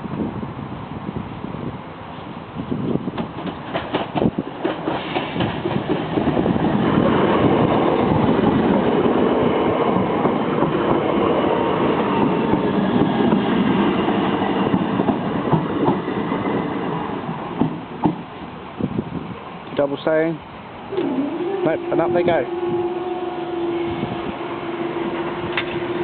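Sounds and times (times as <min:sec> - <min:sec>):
train wheels rumbling on rails: 0:00.2 - 0:26.0.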